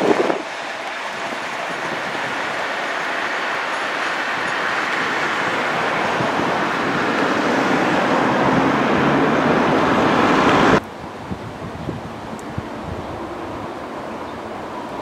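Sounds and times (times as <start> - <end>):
train wheels rumbling on rail: 0.0 - 15.0
wind noise: 0.0 - 15.0.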